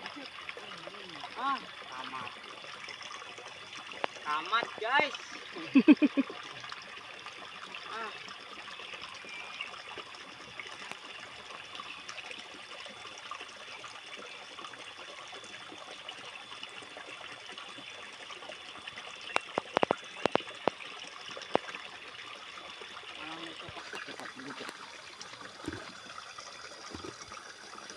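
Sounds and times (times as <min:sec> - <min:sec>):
water trickling: 0:00.0 - 0:27.9.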